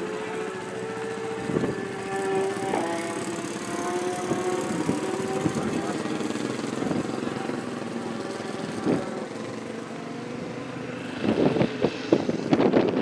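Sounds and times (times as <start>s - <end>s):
engine crackling bursts: 0.0s - 13.0s
motorcycle engine running: 0.0s - 13.0s.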